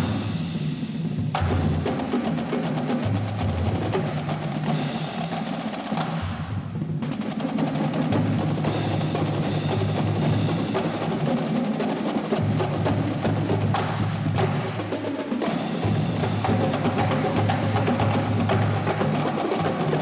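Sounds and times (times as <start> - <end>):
rapid drumline strokes: 0.0 - 20.0.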